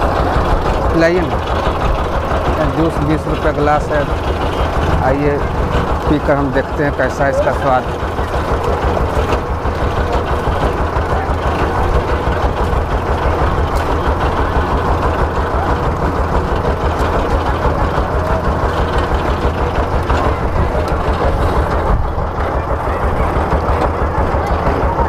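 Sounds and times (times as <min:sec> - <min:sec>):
engine running with low pulse: 0:00.0 - 0:25.0.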